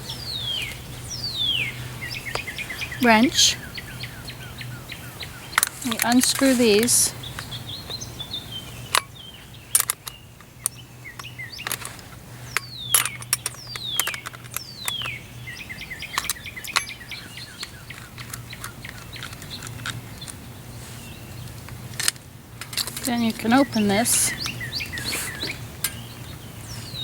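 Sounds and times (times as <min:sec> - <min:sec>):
birds calling and chirping: 0:00.0 - 0:27.0.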